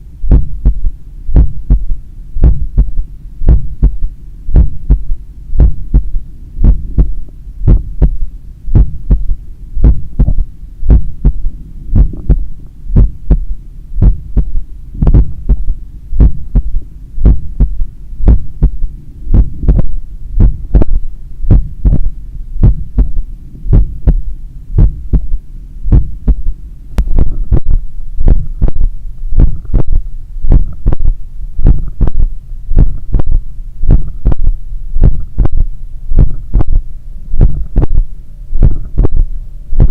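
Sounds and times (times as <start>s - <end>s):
constant low background: 0.0s - 39.9s
heartbeat through stethoscope: 0.3s - 36.8s, 37.4s - 39.9s.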